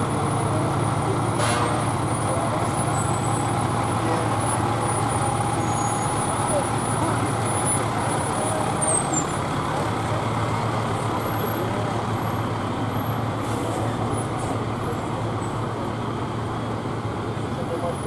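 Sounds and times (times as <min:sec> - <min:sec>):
diesel truck engine passing: 0:00.0 - 0:18.0
vehicles idling: 0:00.0 - 0:18.0.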